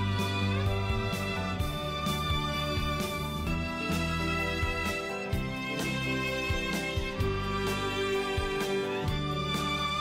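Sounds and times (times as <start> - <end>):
melodic music over a beat: 0.0 - 10.0.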